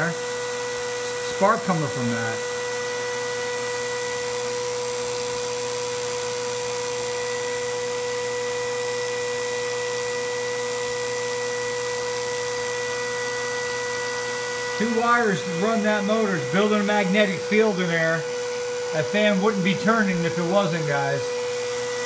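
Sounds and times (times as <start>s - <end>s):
steady electrical whine: 0.0s - 22.0s.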